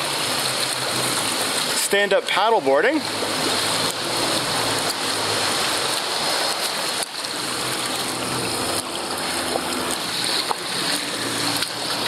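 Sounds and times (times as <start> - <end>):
water splashing along kayak: 0.0 - 12.0.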